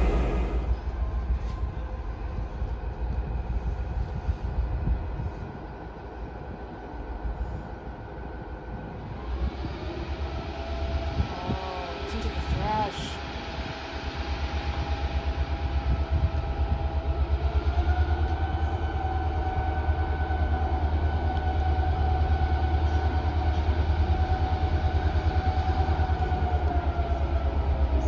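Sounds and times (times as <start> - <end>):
diesel locomotive engine throbbing: 0.0 - 28.0
steady whine: 0.0 - 28.0.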